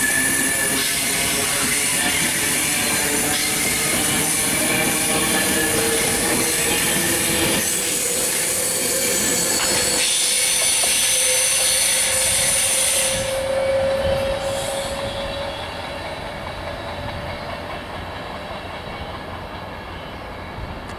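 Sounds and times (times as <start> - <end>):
electric train whine: 0.0 - 20.9
rush of train wheels on rail: 0.0 - 20.9.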